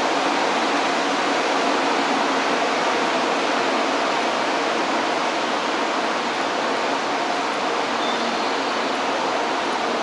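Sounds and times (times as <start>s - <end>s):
station platform ambience: 0.0s - 10.0s.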